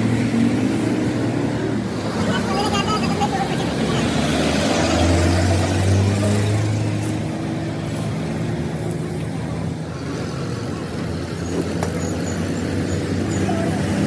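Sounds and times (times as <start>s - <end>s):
motor engine humming: 1.2s - 14.0s.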